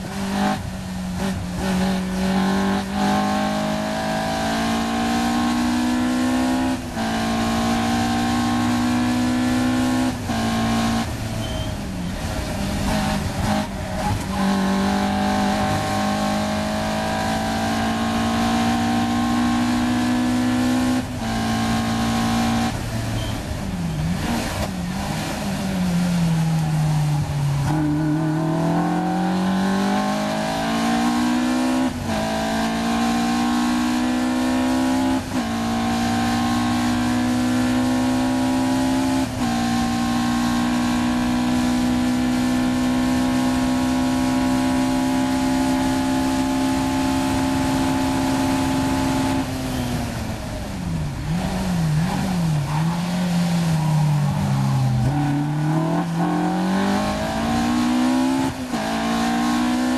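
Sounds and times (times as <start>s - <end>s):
blipped engine downshifts: 0.0s - 59.9s
car engine at full throttle: 0.0s - 59.9s.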